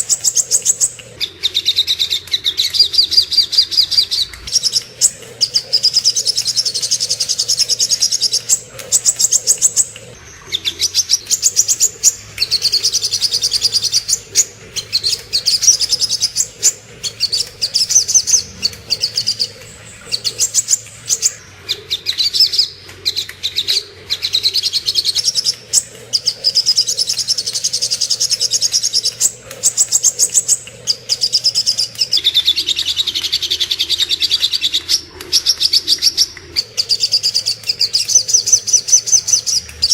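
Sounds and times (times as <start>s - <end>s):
bird high-pitched trills: 0.0s - 32.9s, 35.3s - 39.9s.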